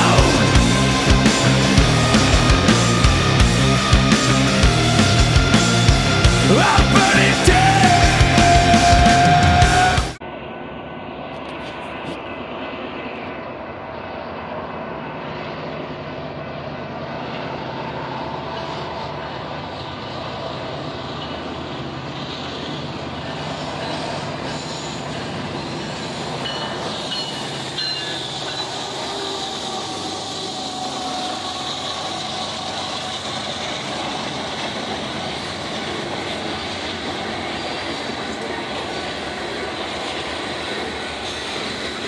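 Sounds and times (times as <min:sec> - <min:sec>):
diesel locomotives rumbling: 0:00.0 - 0:42.0
train cars rolling by: 0:00.0 - 0:42.0.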